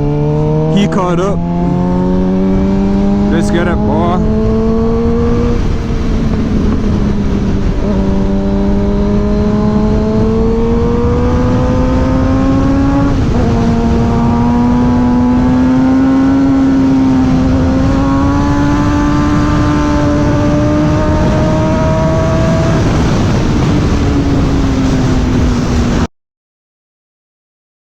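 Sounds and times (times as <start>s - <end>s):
motorcycle engine accelerating: 0.0s - 26.1s
wind rush: 0.0s - 26.1s.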